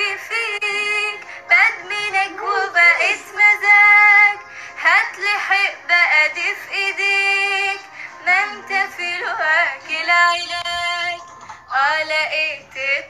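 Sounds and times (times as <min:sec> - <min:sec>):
woman singing pop song: 0:00.0 - 0:13.0.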